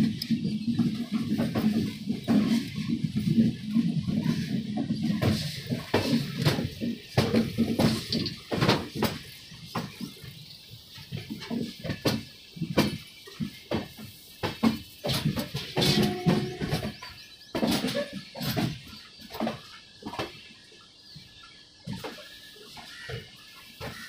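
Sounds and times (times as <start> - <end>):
train wheels clattering and knocking: 0.0 - 24.0.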